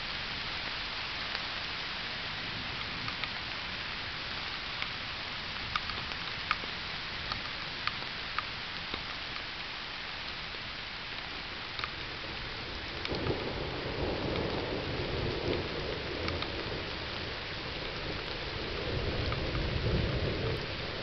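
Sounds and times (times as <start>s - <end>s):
raindrops ticking nearby: 0.0s - 21.0s
steady rain hiss: 0.0s - 21.0s.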